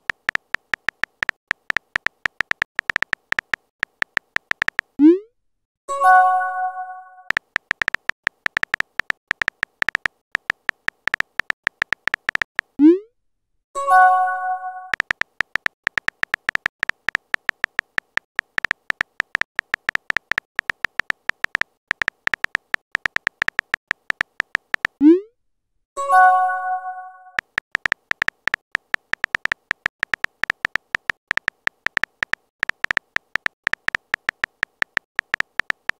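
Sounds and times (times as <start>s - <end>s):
phone keyboard clicks: 0.0s - 5.0s, 7.3s - 12.8s, 14.9s - 25.0s, 27.4s - 35.9s.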